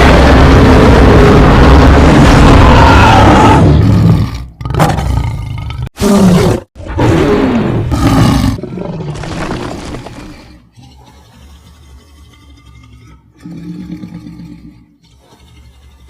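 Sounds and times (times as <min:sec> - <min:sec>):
big cat roaring: 0:00.0 - 0:16.0.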